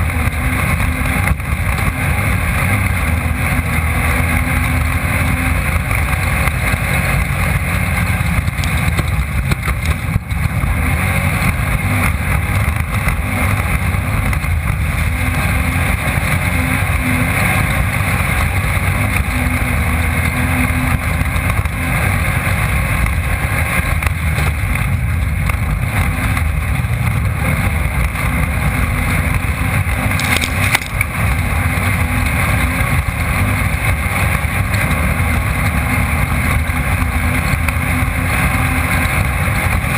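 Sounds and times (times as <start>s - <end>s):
engine running at high revs: 0.0s - 39.9s.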